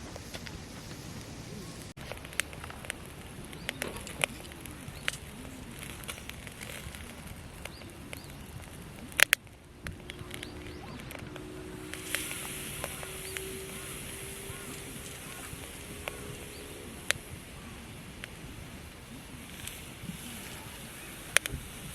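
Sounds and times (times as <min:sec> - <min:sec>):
campfire crackling: 0:00.0 - 0:21.9
sharp pops from fire: 0:00.0 - 0:21.9.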